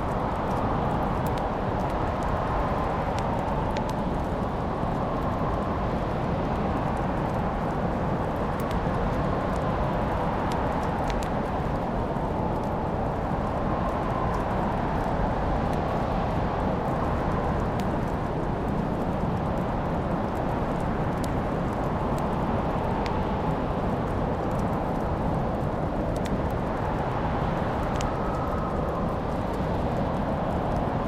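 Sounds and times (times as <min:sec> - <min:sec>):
steady rushing noise: 0:00.0 - 0:31.0
wood fire crackling: 0:00.0 - 0:31.0.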